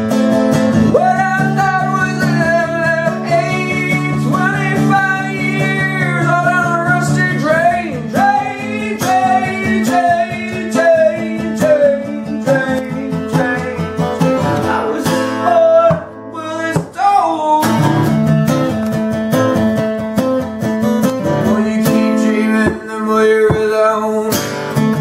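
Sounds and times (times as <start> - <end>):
man singing: 0.0 - 18.2, 21.1 - 25.0
strummed acoustic guitar: 0.0 - 25.0.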